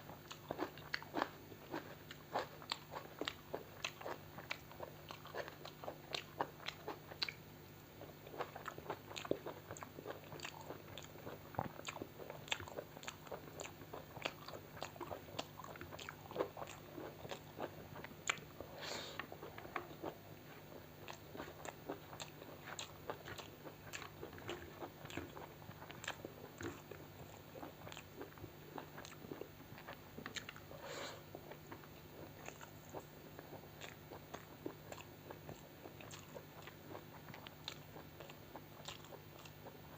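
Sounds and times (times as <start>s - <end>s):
chewing and crunching food: 0.0s - 39.9s
faint steady hum: 0.0s - 39.9s.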